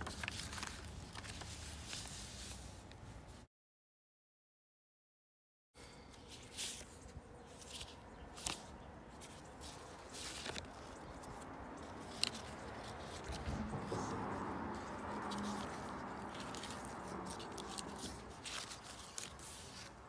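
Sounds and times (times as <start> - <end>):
paper pages turning: 0.0 - 3.4, 6.3 - 20.0.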